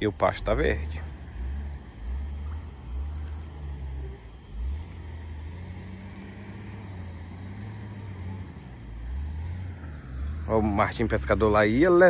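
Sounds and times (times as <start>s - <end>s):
faint insect chirps: 0.0s - 12.0s.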